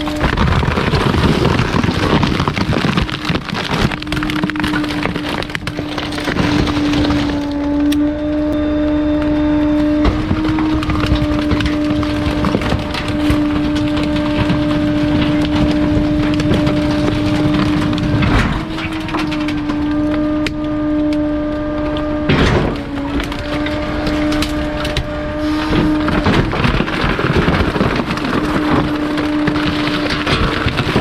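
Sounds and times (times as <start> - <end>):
compactor crushing refuse: 0.0 - 31.0
steady hum: 3.2 - 31.0.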